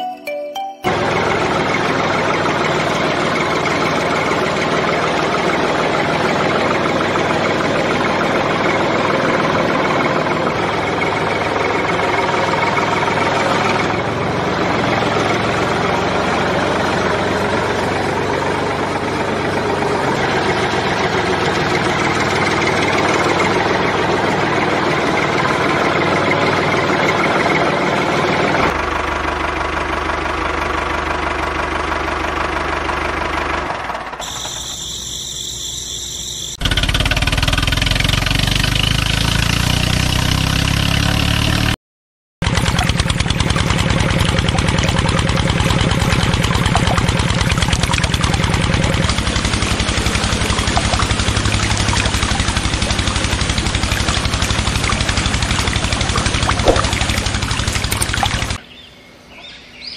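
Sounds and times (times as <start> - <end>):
engine-like running noise: 0.9 - 41.8, 42.4 - 59.9.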